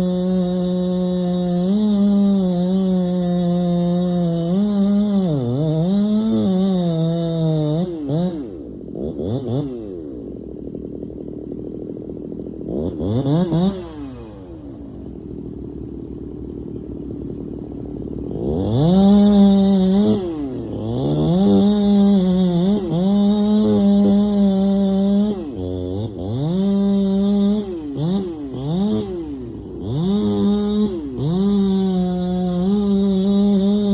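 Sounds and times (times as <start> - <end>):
chainsaw revving: 0.0 - 33.9.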